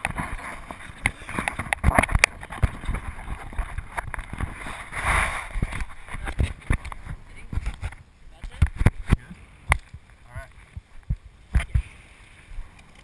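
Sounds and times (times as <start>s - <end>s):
wind rushing over microphone: 0.0s - 12.8s.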